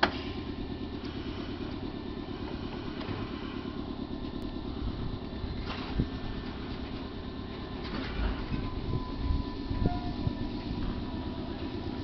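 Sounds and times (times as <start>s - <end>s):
electric train equipment humming: 0.0s - 12.0s.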